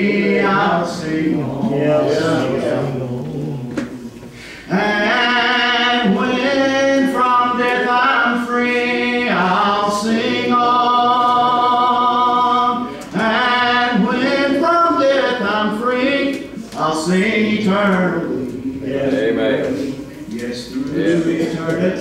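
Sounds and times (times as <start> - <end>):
man singing a hymn: 0.0 - 20.0.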